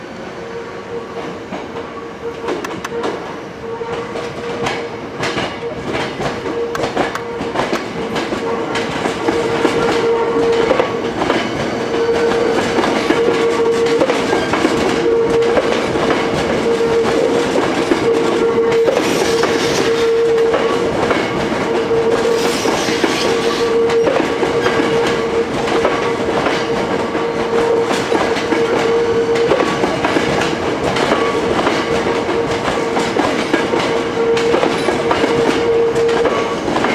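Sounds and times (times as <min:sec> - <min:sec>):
train wheels clicking over rail joints: 0:01.2 - 0:36.9.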